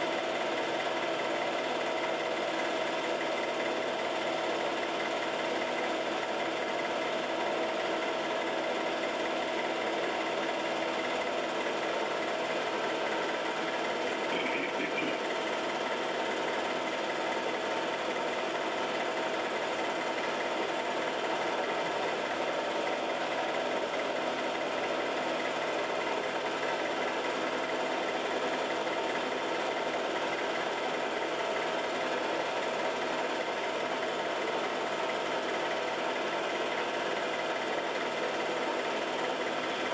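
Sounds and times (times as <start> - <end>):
film projector whirring and clattering: 0.0 - 39.9
steady multi-tone hum: 0.0 - 39.9.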